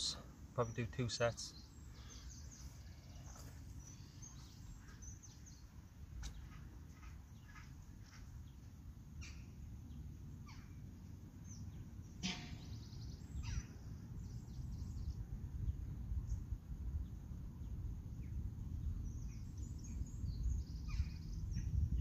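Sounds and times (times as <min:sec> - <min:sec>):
birds calling: 0:00.0 - 0:15.3, 0:18.2 - 0:22.0.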